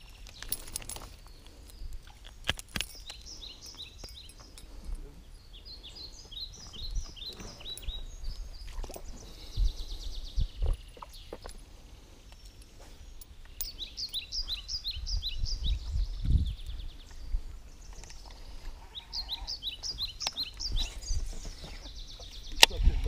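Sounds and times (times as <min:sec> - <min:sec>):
small bird chirping: 0:00.0 - 0:22.8.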